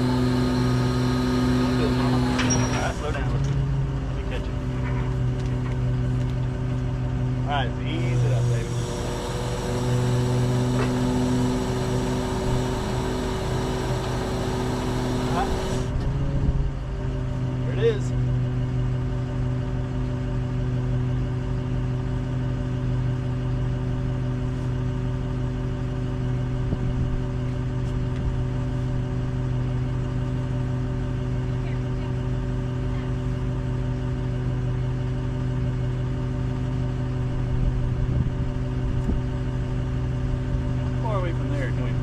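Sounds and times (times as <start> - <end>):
engine idling: 0.0 - 42.0.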